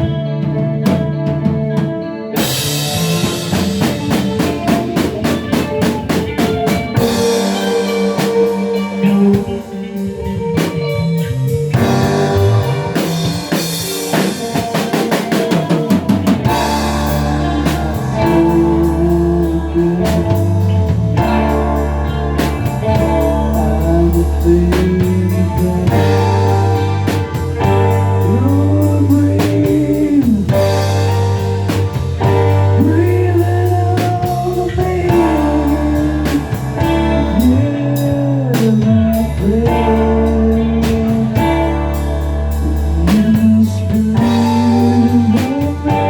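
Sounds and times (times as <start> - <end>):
drum kit beat: 0.0 - 46.0
live band playing: 0.0 - 46.0.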